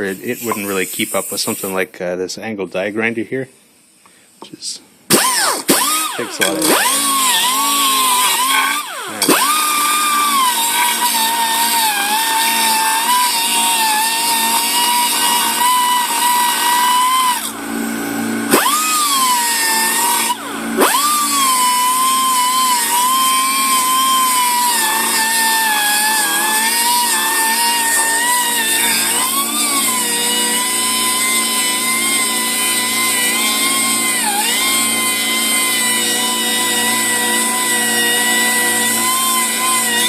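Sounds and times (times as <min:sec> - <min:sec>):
air die grinder whining: 0:05.1 - 0:40.0.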